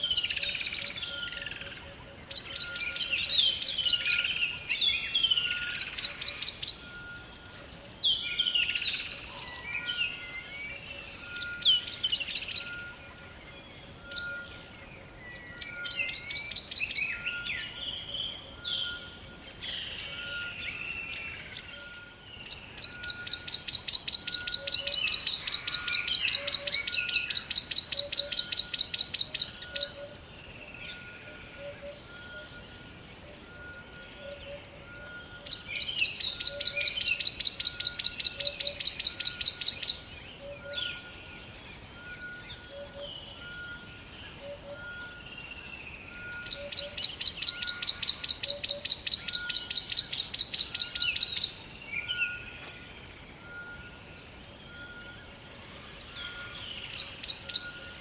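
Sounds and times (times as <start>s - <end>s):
songbirds singing and calling: 0.0s - 58.0s.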